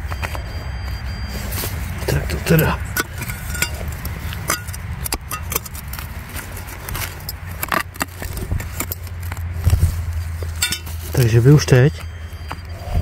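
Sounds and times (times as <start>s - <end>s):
hand tool scraping soil: 1.3s - 11.8s.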